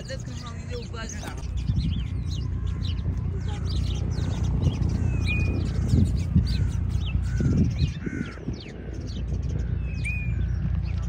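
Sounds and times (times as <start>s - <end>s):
low rumble: 0.0s - 11.0s
pond birds calling: 0.0s - 11.0s.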